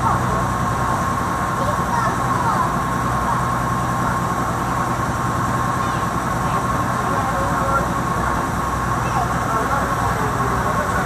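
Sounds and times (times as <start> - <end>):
boat engine drone: 0.0 - 11.0
engine high whine: 0.0 - 11.0.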